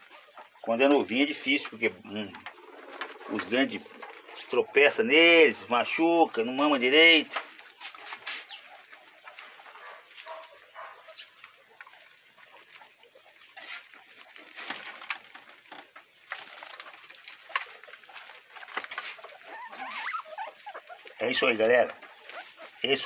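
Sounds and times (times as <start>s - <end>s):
guinea pigs chewing: 0.0s - 23.0s.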